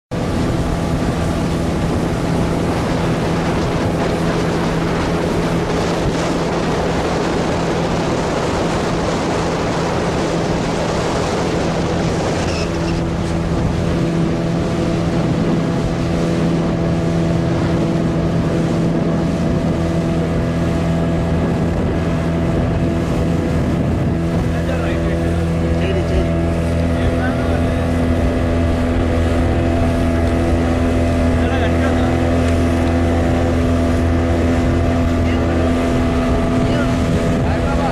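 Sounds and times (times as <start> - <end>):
speedboat engine humming: 0.1 - 37.9
wind and water rushing: 0.1 - 37.9.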